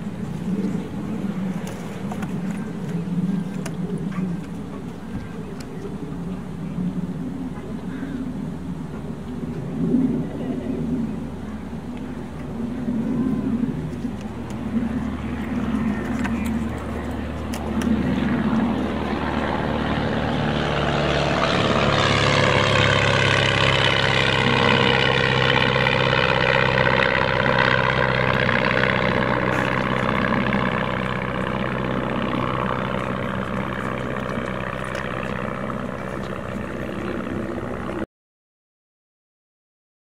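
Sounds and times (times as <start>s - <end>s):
small aircraft engine passing: 0.0s - 38.1s.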